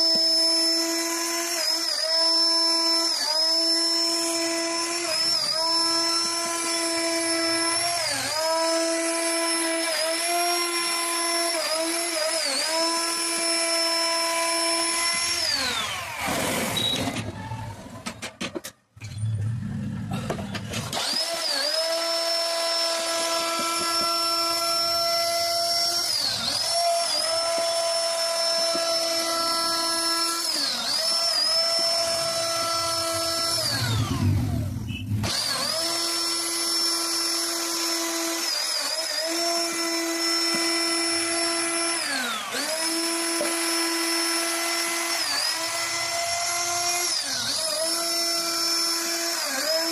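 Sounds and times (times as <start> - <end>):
wood router spindle whining: 0.0 - 18.2, 20.3 - 49.9.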